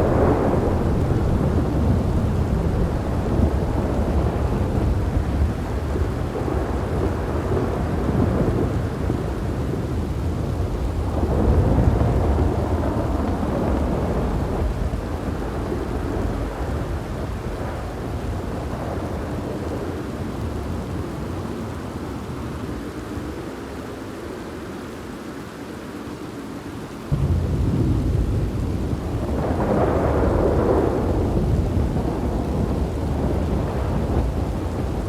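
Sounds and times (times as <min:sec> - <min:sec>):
low rolling thunder: 0:00.0 - 0:24.4, 0:27.0 - 0:35.0
steady rain: 0:00.0 - 0:35.0.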